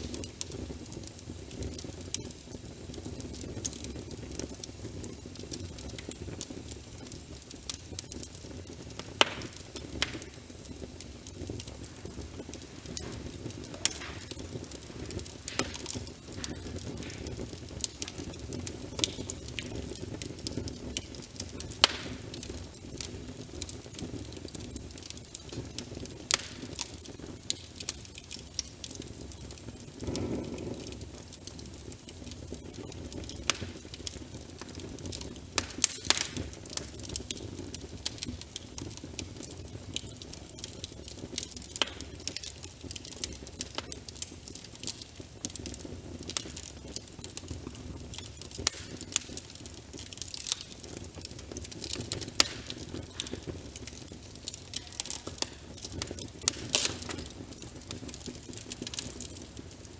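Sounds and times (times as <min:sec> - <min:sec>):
rain pattering: 0:00.0 - 0:59.9
wood fire crackling: 0:00.0 - 0:59.9.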